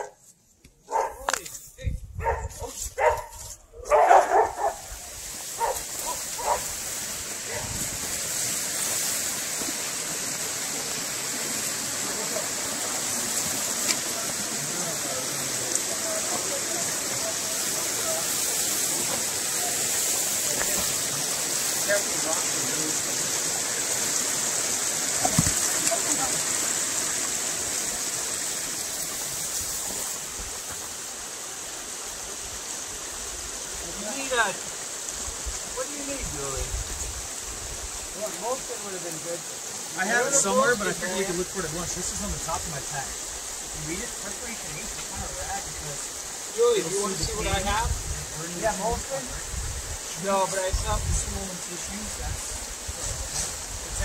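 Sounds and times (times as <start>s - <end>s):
water rushing: 3.9s - 54.0s.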